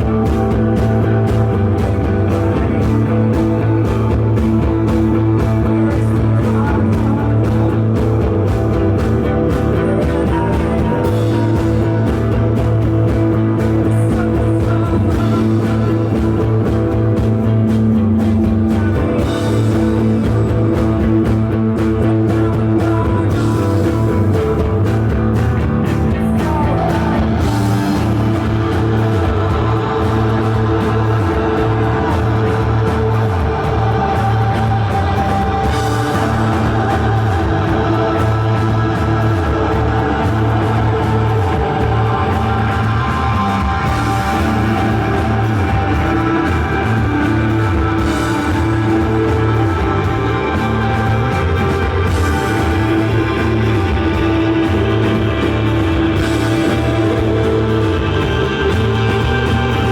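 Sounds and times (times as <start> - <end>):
live psychedelic rock band: 0.0 - 59.9.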